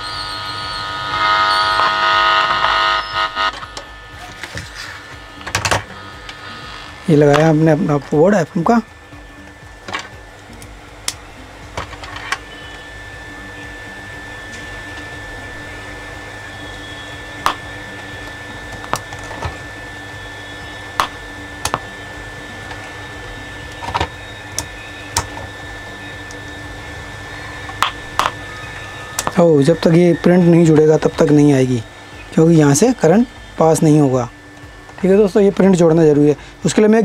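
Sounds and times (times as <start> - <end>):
electrical hum and hiss: 0.0 - 37.0
faint high whine: 0.0 - 37.0.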